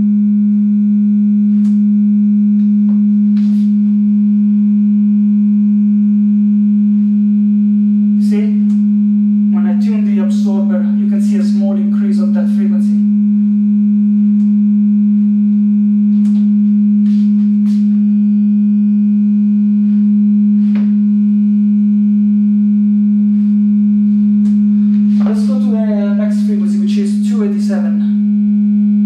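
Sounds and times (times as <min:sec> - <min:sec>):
steady sine test tone: 0:00.0 - 0:29.0.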